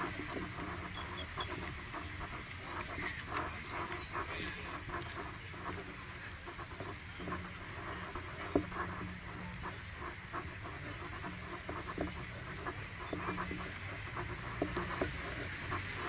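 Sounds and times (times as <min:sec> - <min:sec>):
faint clicks: 0:00.0 - 0:16.0
faint voices: 0:00.0 - 0:16.0
low steady engine hum: 0:00.0 - 0:16.0.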